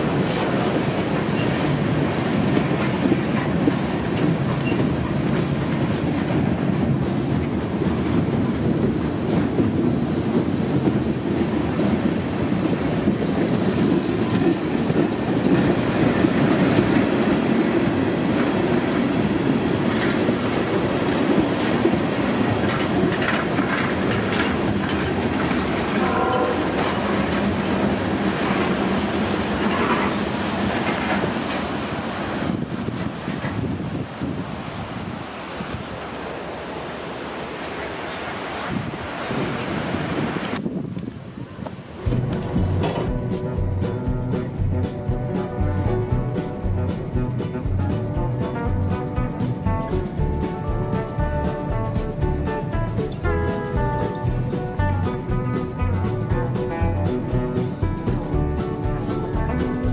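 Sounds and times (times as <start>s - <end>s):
wheels clicking over rail joints: 0.0s - 34.3s, 40.5s - 59.9s
train wheels rumbling on rails: 0.0s - 59.9s.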